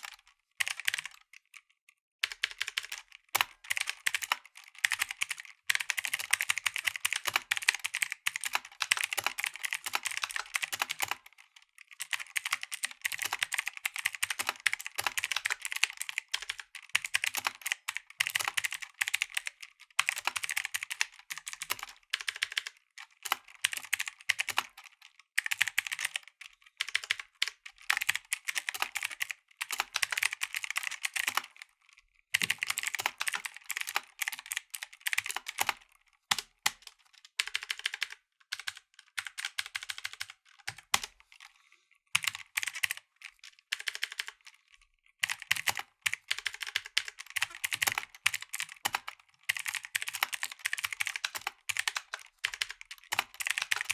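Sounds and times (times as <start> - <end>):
mechanical keyboard clicking: 0.0 - 1.6, 2.2 - 41.5, 42.2 - 44.6, 45.2 - 53.9.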